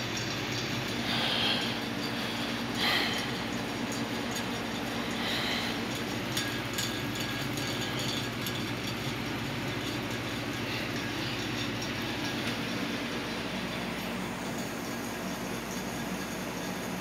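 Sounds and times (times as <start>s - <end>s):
ceiling fan motor hum: 0.0s - 17.0s
fan bearing noise: 0.0s - 17.0s.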